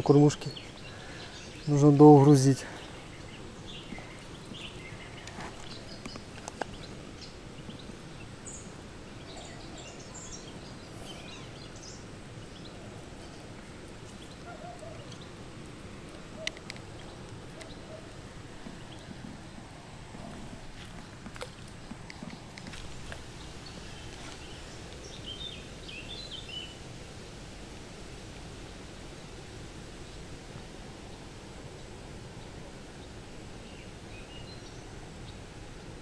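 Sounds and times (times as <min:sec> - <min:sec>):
small birds chirping: 0:00.0 - 0:27.5, 0:28.4 - 0:36.0.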